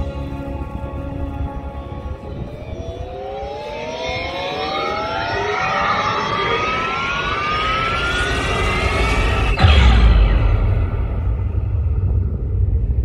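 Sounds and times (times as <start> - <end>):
rising two-tone whine: 0.0 - 13.0.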